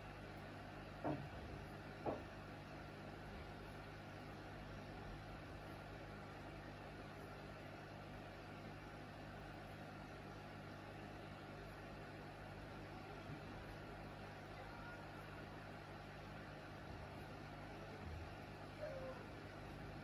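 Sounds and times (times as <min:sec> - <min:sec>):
aquarium aeration hum: 0:00.0 - 0:20.0.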